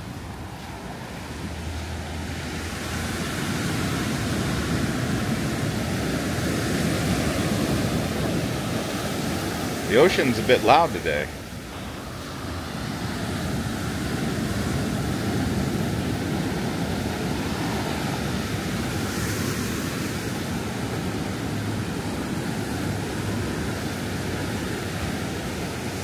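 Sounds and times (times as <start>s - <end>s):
ocean surf breaking: 0.0s - 26.0s.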